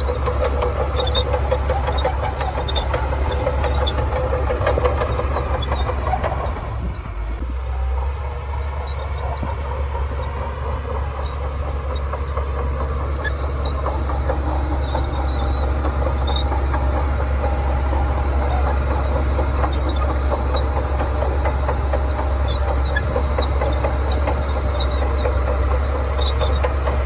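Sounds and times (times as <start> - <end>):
steel tracks clinking and squeaking: 0.0 - 7.4, 8.1 - 27.0
bulldozer diesel engine droning: 0.0 - 27.0.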